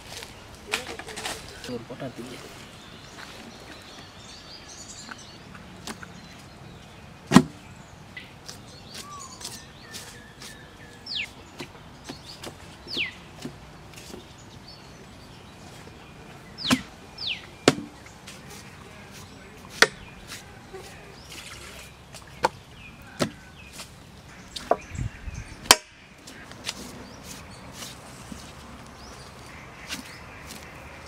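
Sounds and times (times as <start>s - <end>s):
birds whistling: 1.3s - 30.7s.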